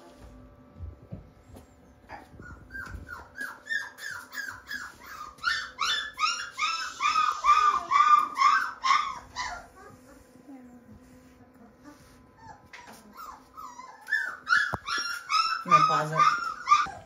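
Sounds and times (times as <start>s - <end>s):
puppy whining: 1.4s - 11.0s, 11.6s - 17.0s.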